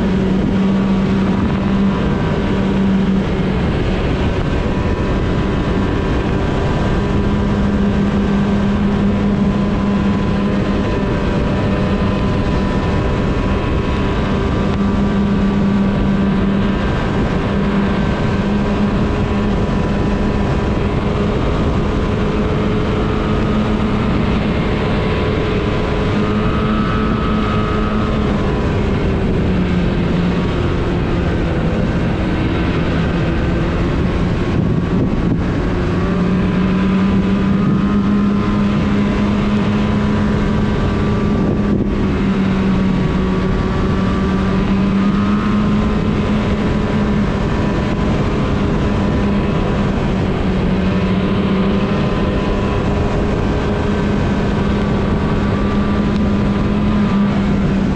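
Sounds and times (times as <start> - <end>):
rushing noise: 0.0 - 57.9
snowmobile engine droning: 0.0 - 57.9.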